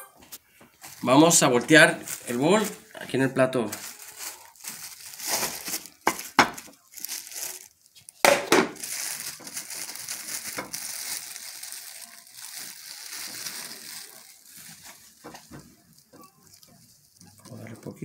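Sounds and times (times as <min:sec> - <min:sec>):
plastic bag crinkling: 0:00.8 - 0:18.0.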